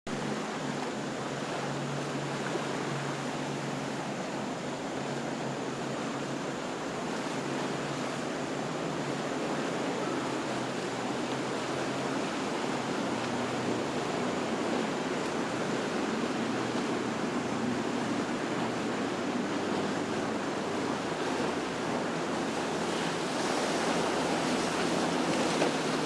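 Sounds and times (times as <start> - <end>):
boat engine drone: 0.1 - 26.0
churned water rushing: 0.1 - 26.0
wind: 0.1 - 26.0.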